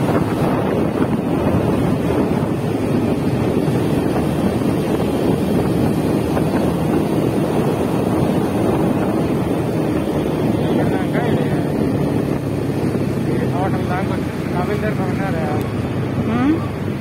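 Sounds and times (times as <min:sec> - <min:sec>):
low rumble of road noise: 0:00.0 - 0:17.0
wind buffeting microphone: 0:00.0 - 0:17.0.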